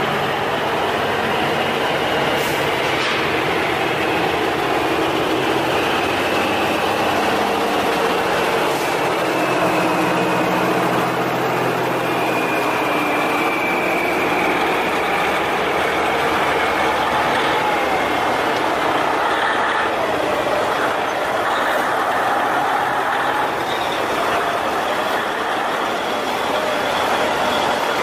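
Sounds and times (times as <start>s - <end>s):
truck engines droning: 0.0s - 28.0s.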